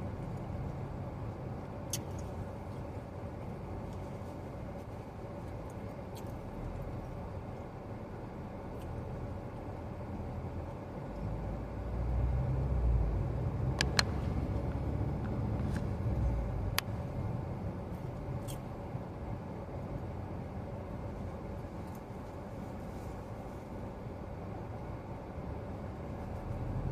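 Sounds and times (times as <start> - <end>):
air conditioning blowing: 0.0 - 26.9
car engine and road rumble: 0.0 - 26.9.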